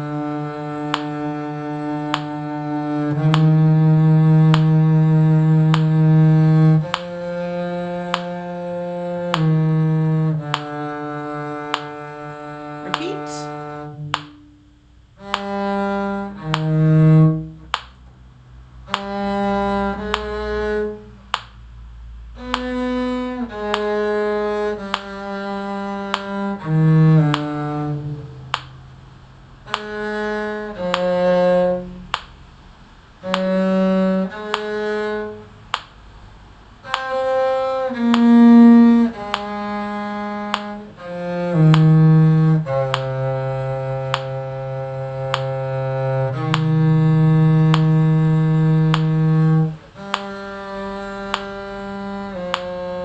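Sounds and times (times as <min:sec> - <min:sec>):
muted bowed string melody: 0:00.0 - 0:53.0.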